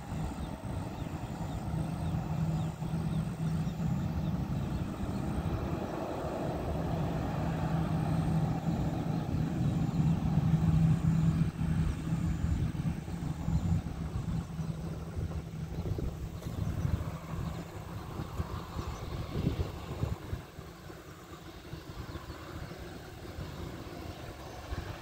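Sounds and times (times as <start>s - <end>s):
continuous rumble: 0.0s - 25.0s
jet engines low hum: 0.0s - 25.0s.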